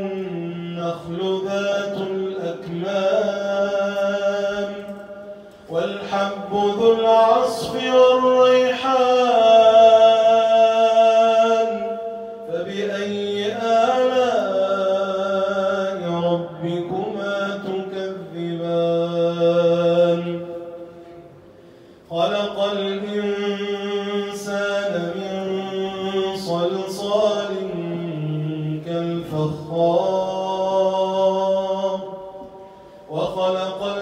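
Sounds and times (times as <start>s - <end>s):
man reciting melodically: 0.0s - 21.3s, 22.0s - 34.0s.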